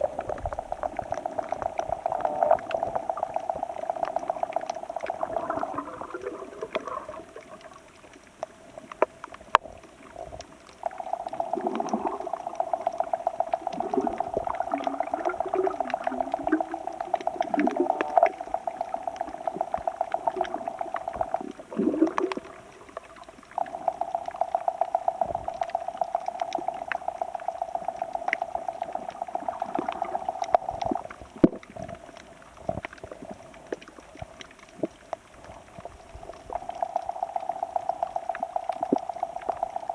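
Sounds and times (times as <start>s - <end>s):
sea water sloshing and gurgling: 0.0s - 39.9s.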